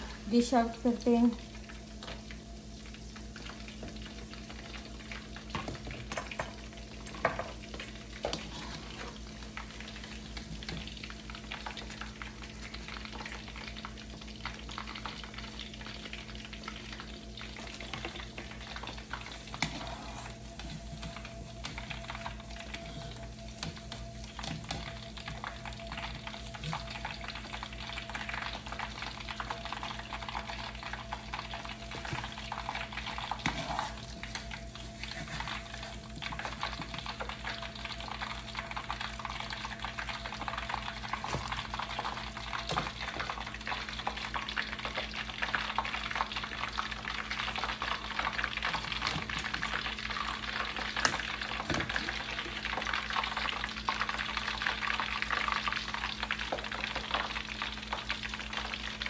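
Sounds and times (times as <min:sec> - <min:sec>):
oil sizzling in a wok: 0:00.0 - 0:59.0.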